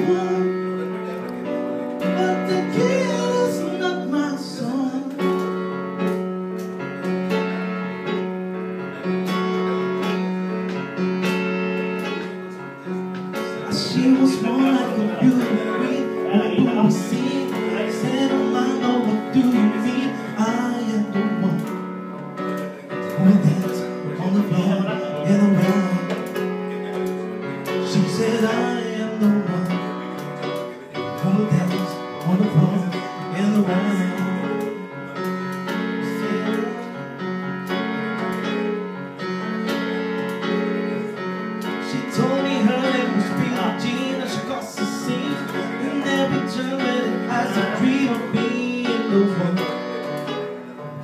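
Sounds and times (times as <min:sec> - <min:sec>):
man singing into microphone: 0:00.0 - 0:05.8, 0:13.4 - 0:38.8, 0:40.6 - 0:50.9
electronic keyboard chords: 0:00.0 - 0:51.0.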